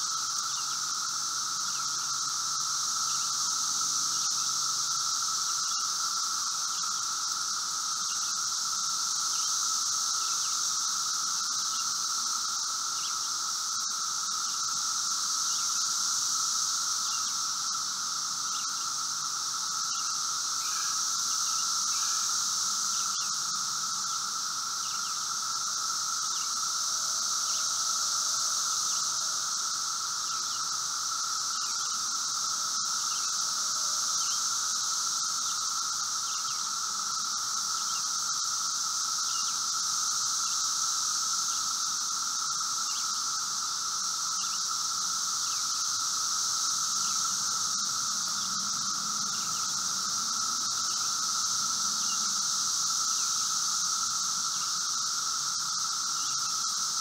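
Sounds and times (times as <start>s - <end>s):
cicadas droning: 0.0s - 57.0s.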